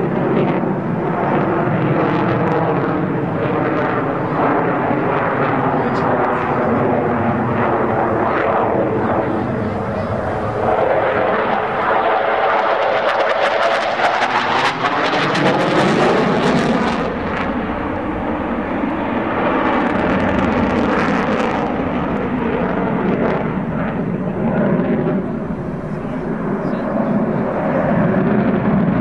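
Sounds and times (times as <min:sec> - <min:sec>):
jet engines roaring past: 0:00.0 - 0:29.0.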